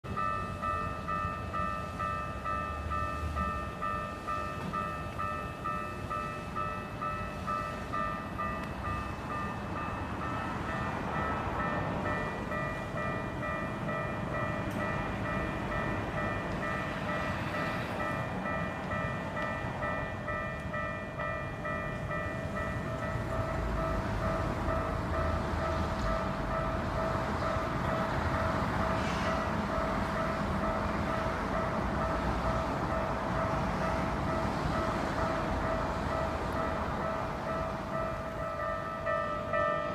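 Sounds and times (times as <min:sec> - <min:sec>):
railroad crossing alarm ringing: 0:00.0 - 0:39.9.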